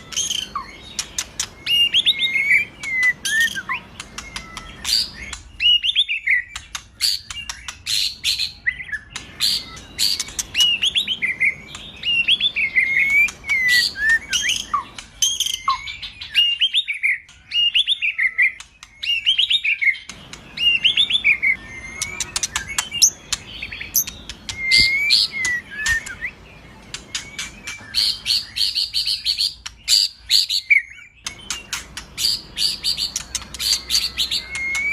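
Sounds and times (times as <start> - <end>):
sharp bird chattering: 0.0 - 34.9
songbird whistling song: 0.0 - 34.9.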